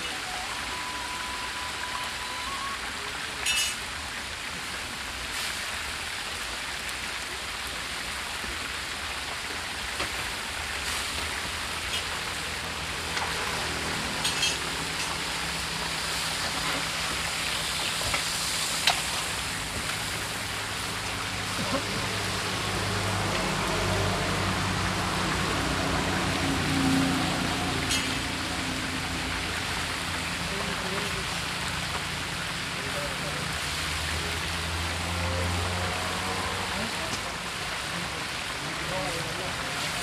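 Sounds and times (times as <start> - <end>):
kebabs sizzling in hot oil: 0.0 - 40.0.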